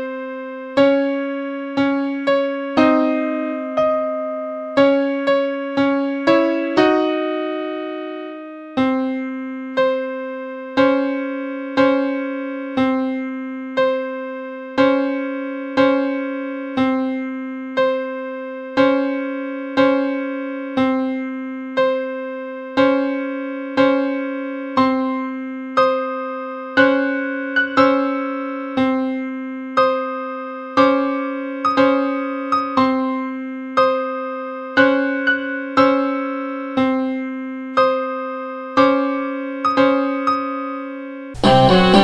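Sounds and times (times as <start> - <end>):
electric piano chords: 0.0 - 40.8, 41.4 - 42.0.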